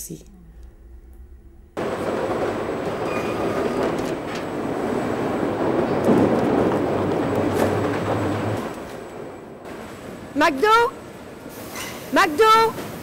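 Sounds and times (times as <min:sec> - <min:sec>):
machinery and conveyor belts running: 0:00.4 - 0:13.0.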